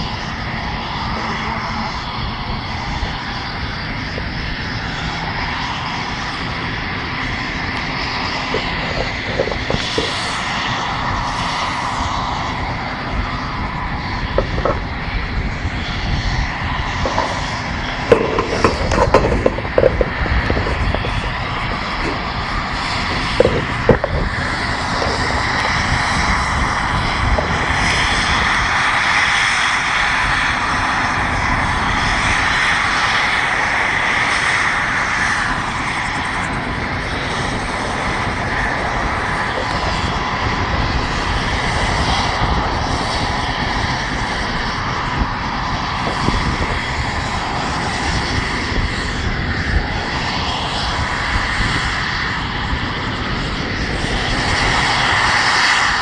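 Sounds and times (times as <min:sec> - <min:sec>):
jet turbine engines whining: 0:00.0 - 0:56.0.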